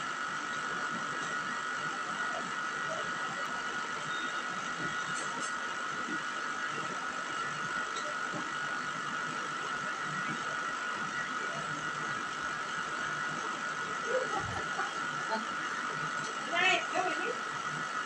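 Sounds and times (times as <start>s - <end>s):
steady machine whir: 0.0s - 18.0s.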